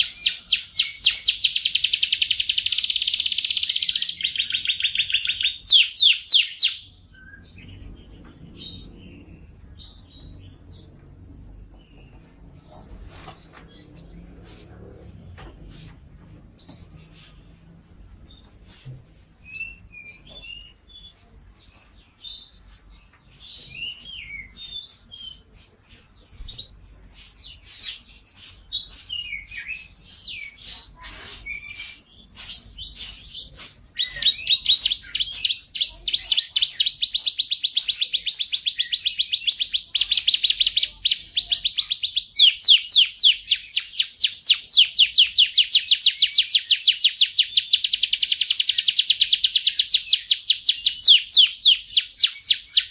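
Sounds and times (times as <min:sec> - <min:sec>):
canary singing: 0:00.0 - 0:11.0, 0:11.6 - 0:14.4, 0:16.6 - 0:18.5, 0:19.4 - 0:52.9.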